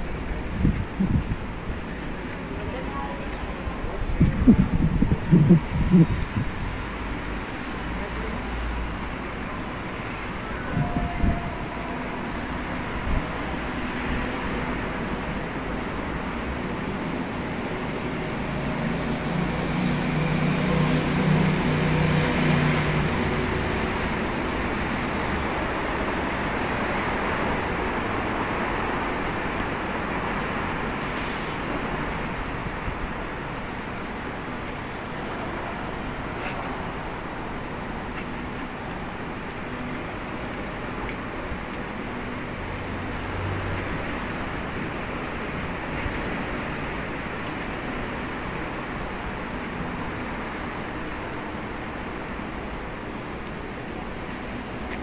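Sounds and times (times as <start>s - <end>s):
city street traffic: 0.0s - 55.0s
vehicle engine hum passing: 0.0s - 55.0s.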